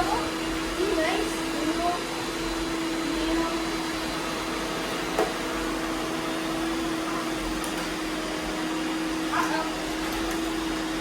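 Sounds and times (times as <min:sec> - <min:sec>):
robot vacuum cleaners whirring: 0:00.0 - 0:11.0.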